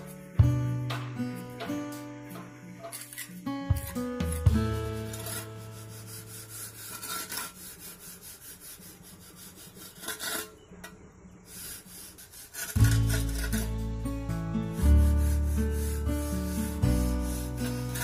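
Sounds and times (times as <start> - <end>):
trowel scraping wet cement: 2.8 - 10.7, 11.4 - 18.0.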